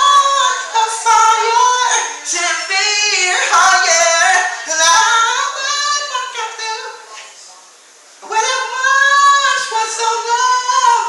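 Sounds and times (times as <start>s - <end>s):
man singing a cappella: 0.0s - 7.2s, 8.2s - 11.0s.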